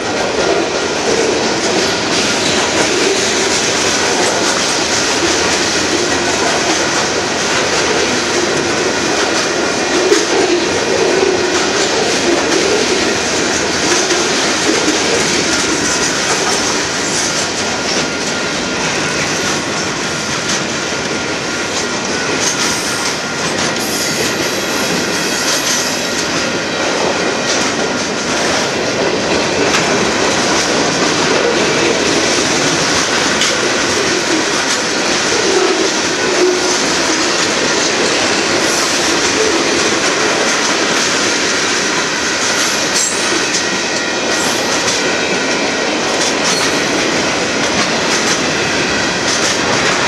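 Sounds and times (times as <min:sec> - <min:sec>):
freight train wheels rumbling: 0:00.0 - 0:50.0
wheels clicking over rail joints: 0:00.0 - 0:50.0.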